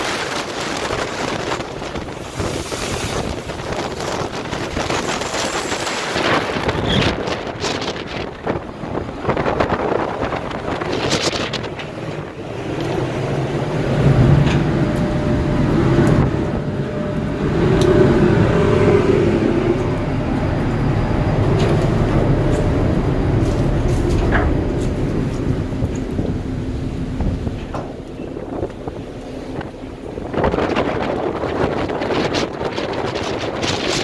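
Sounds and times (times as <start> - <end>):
deep rumble: 0.0 - 34.0
heavy sea rushing along ship: 0.0 - 34.0
strong wind: 0.0 - 34.0.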